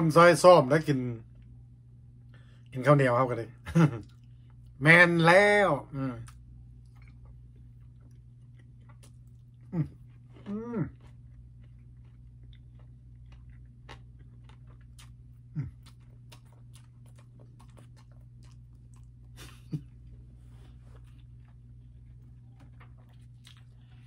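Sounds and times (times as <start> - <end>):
steady low hum: 0.0 - 24.0
soft chewing and lip smacks: 1.2 - 2.8, 4.0 - 4.8, 6.2 - 24.0.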